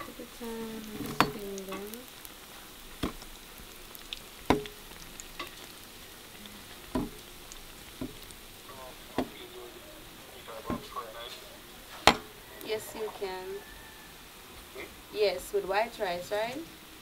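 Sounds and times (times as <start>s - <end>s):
dumplings sizzling in hot oil: 0.0s - 17.0s.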